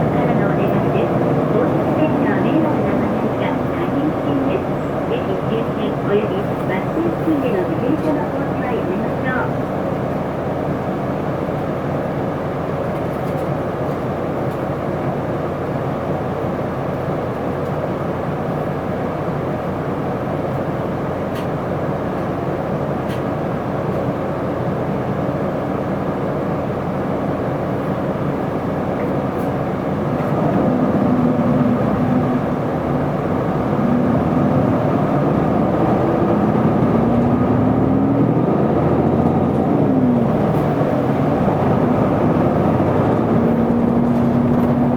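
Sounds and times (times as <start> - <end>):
bus diesel engine droning: 0.0 - 44.9.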